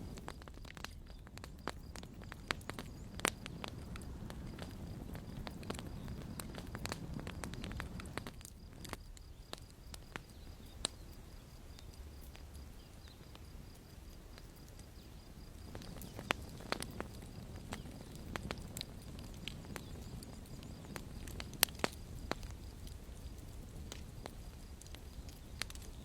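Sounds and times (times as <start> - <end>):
low rumble of flame: 0.0 - 26.0
wood crackling and popping: 0.0 - 26.0.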